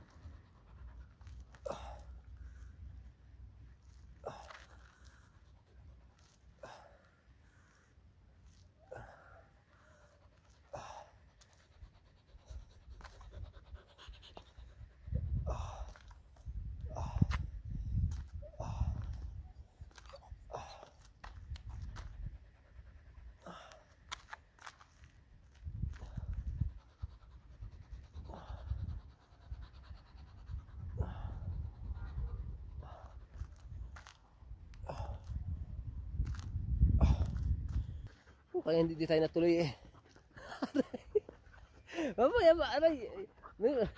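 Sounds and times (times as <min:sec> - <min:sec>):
dog panting: 0:00.0 - 0:35.4, 0:37.2 - 0:43.9
steady low rumble: 0:00.0 - 0:38.5.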